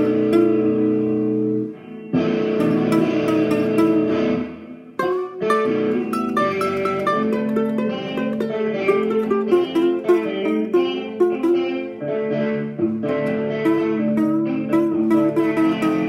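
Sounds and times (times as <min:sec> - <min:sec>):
guitar picking melody: 0:00.0 - 0:16.0.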